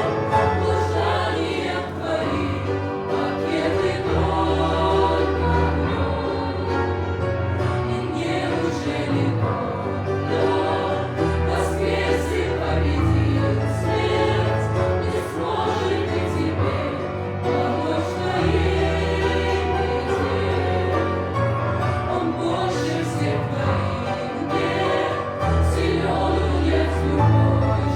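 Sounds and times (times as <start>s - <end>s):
choir singing: 0.0s - 27.9s.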